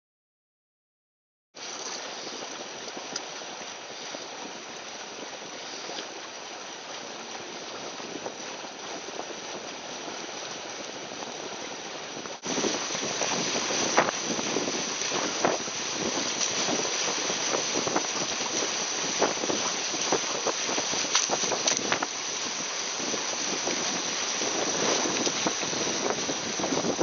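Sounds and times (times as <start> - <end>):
water rushing along boat hulls: 1.6 - 27.0.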